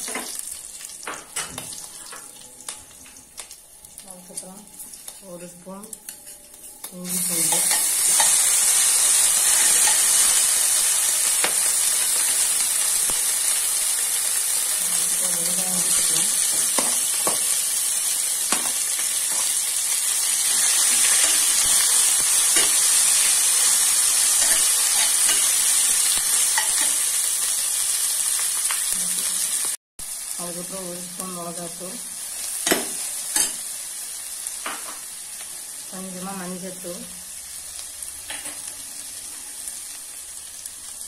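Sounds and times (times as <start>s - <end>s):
frying sizzle: 0.0s - 41.0s.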